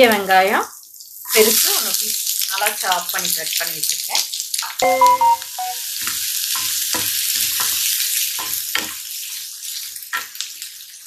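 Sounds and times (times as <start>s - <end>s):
onions sizzling in hot oil: 0.0s - 5.0s, 5.6s - 11.0s.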